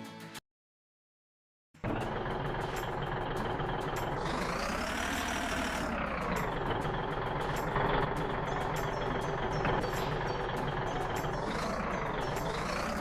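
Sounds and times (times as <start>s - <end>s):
truck engine running: 1.8s - 13.0s.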